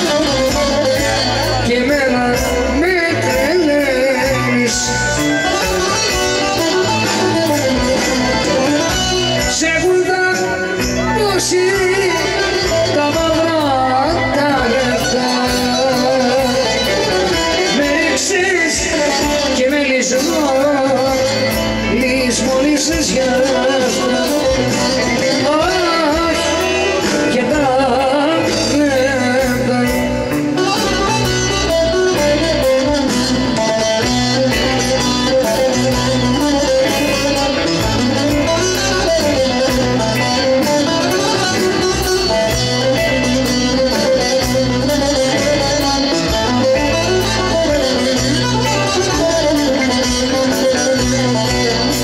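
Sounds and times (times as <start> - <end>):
live band playing: 0.0 - 52.0
woman singing: 0.0 - 52.0.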